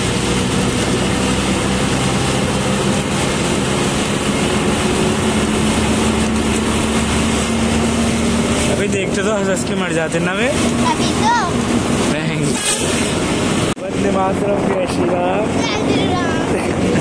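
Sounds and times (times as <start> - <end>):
bus engine running: 0.0 - 17.0
tyre and road noise: 0.0 - 17.0.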